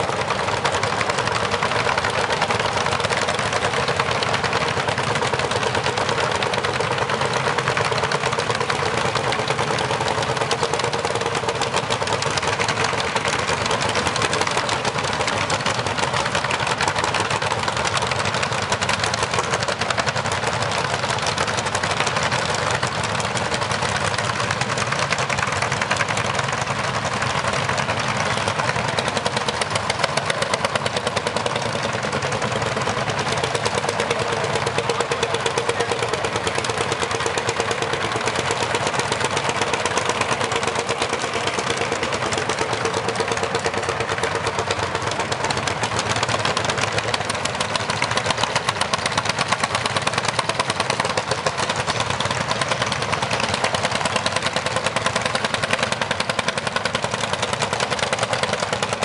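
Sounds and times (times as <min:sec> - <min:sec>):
tractor engines running: 0:00.0 - 0:59.0.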